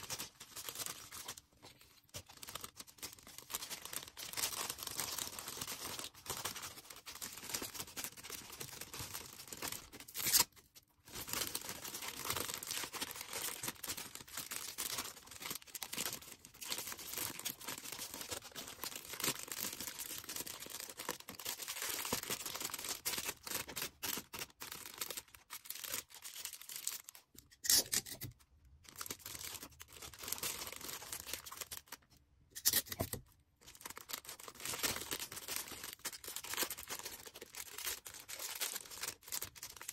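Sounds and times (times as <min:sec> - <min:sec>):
plastic packaging crinkling: 0:00.0 - 0:28.2, 0:28.8 - 0:32.1, 0:32.7 - 0:39.9
plastic tearing: 0:00.0 - 0:39.9.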